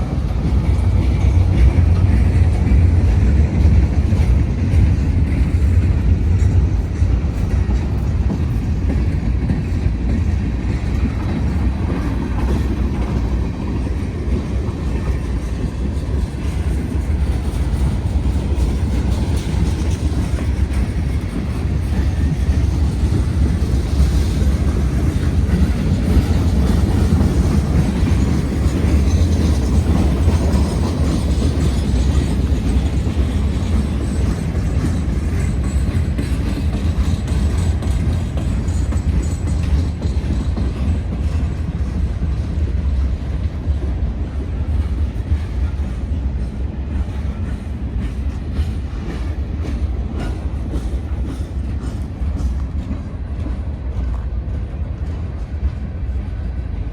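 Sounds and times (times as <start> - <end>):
wheels clattering on rails: 0.0 - 56.8
freight train rumbling past: 0.0 - 56.9.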